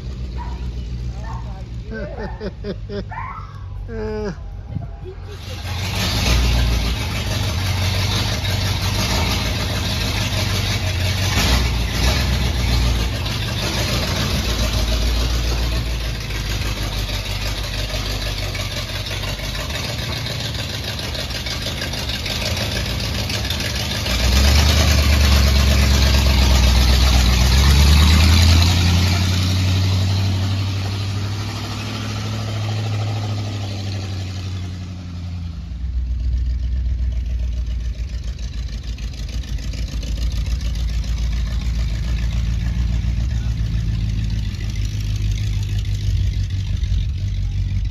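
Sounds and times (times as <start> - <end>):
pickup truck engine running: 0.0 - 3.2, 3.8 - 47.9.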